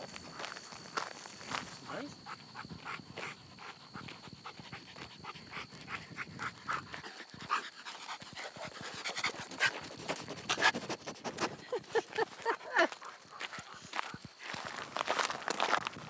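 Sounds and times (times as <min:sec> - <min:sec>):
dog panting: 0:01.2 - 0:15.6.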